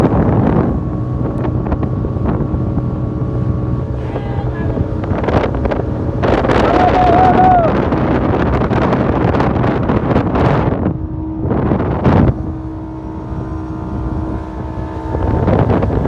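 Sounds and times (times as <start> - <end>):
boat engine running: 0.0 - 16.0
wind buffeting microphone: 0.0 - 16.0
water rushing past: 1.5 - 16.0.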